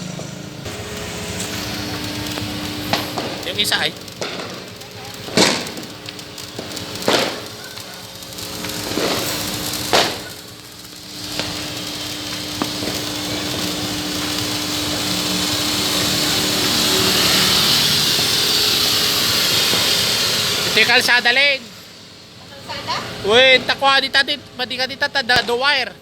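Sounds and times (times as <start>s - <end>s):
firecracker bangs: 0.1s - 23.8s
steady hiss: 0.1s - 25.9s.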